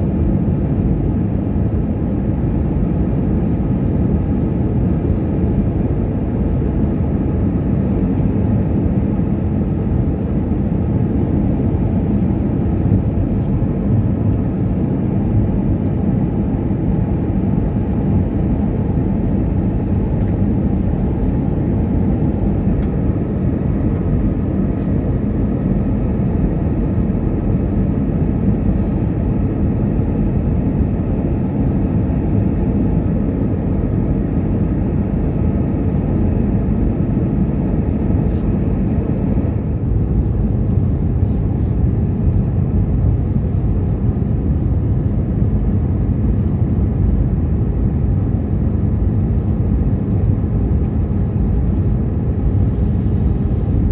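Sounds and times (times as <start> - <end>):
airplane engines droning: 0.0 - 53.9.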